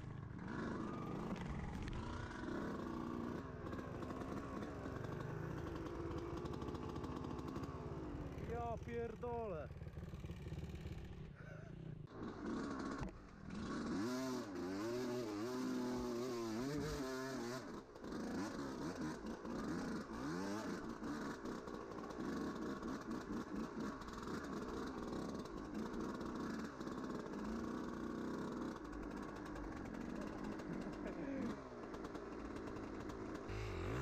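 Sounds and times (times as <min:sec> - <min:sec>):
dirt bike engine revving: 0:00.2 - 0:34.0.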